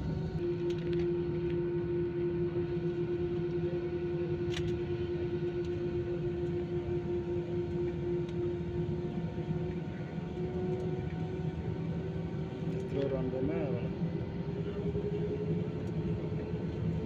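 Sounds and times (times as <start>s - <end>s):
jet engines droning with whine: 0.0s - 17.0s.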